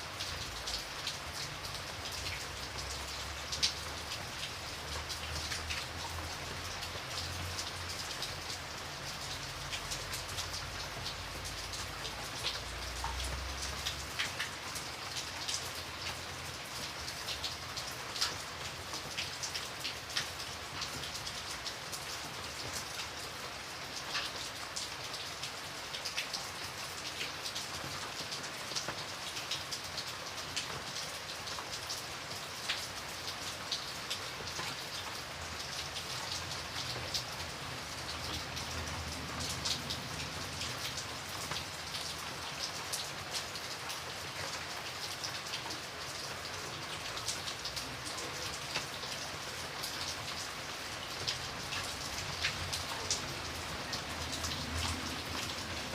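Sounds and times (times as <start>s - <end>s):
light rain falling: 0.0s - 55.9s.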